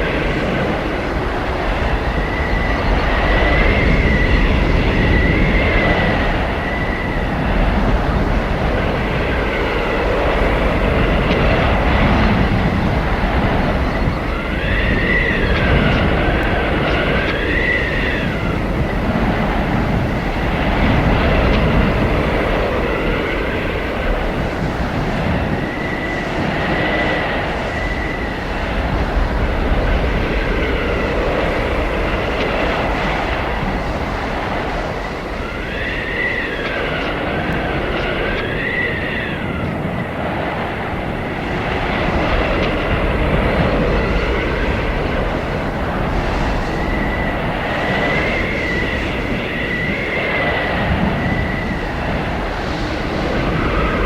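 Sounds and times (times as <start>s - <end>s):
blizzard wind howling: 0.0s - 54.0s.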